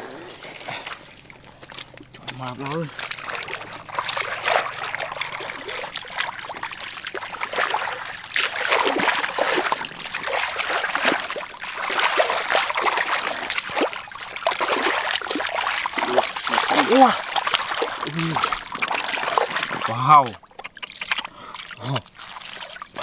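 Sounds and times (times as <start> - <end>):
hands squelching through mud: 0.0 - 23.0
wet splashes and drips: 0.4 - 23.0.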